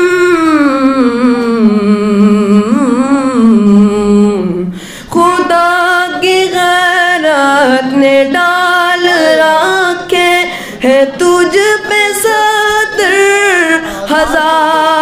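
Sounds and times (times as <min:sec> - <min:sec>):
boy singing: 0:00.0 - 0:15.0.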